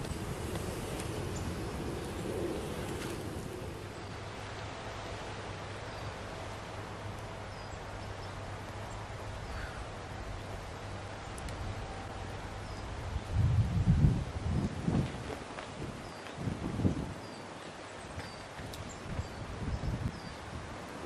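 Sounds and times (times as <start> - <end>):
low hiss and rumble: 0.0 - 18.0.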